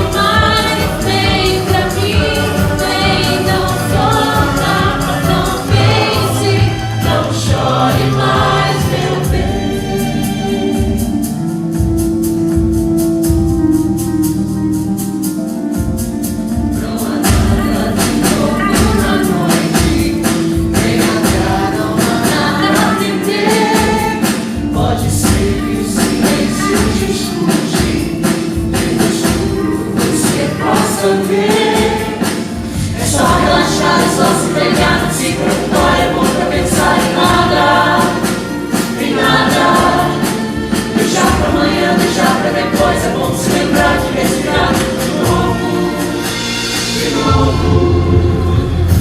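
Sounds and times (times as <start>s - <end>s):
group of voices singing: 0.0s - 11.4s, 16.7s - 49.0s
band with percussive beat: 0.0s - 49.0s.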